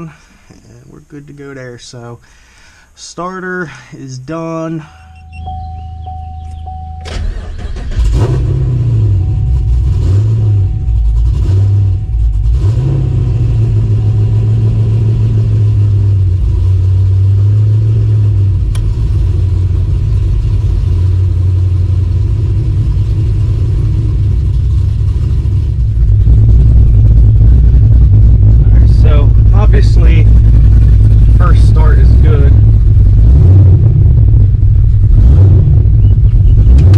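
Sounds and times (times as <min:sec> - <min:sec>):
engine rumbling idle: 0:04.6 - 0:36.9
car engine starting and revving: 0:05.0 - 0:36.9.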